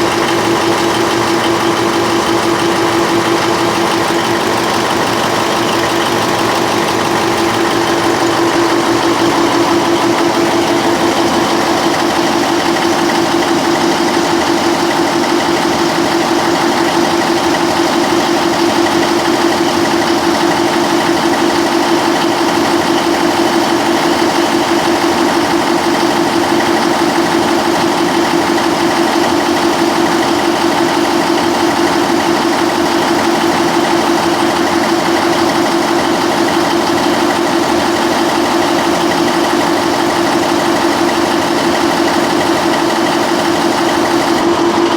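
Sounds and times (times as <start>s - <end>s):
generator engine running: 0.0s - 44.9s.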